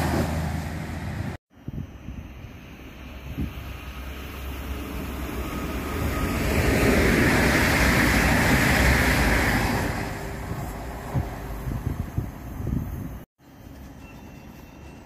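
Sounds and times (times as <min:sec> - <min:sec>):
train passing with rushing rumble: 0:00.0 - 0:15.0.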